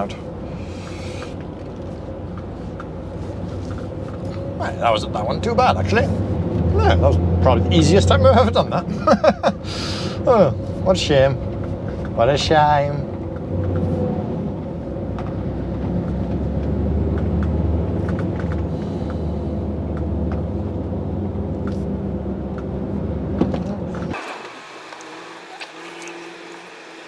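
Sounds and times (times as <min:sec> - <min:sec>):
diesel engine drone: 0:00.0 - 0:27.0.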